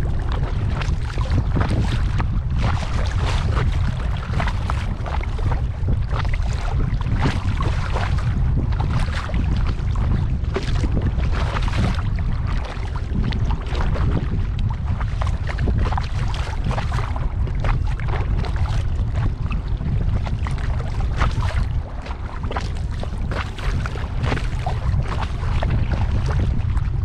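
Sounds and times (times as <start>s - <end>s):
water splashing around kayak: 0.0s - 27.0s
wind on microphone: 0.0s - 27.0s.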